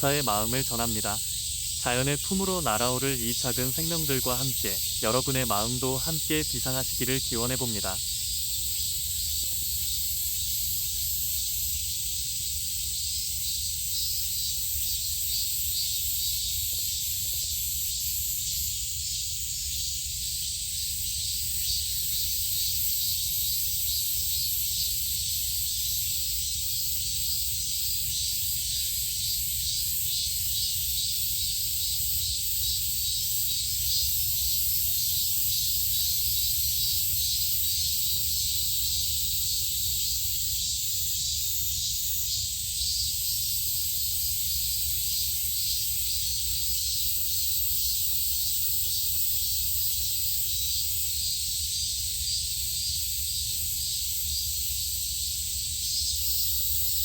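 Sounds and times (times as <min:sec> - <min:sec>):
insects chorus pulsing: 0:00.0 - 0:57.0.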